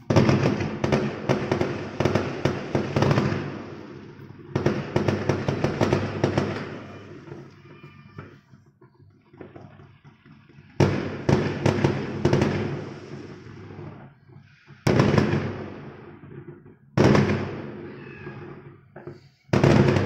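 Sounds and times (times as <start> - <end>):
fireworks exploding: 0.0 - 20.0
rumble after firework bangs: 0.0 - 20.0.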